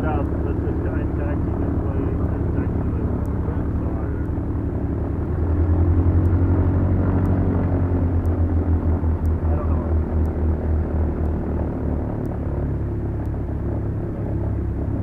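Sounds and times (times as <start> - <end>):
twin piston engines and propellers: 0.0 - 15.0.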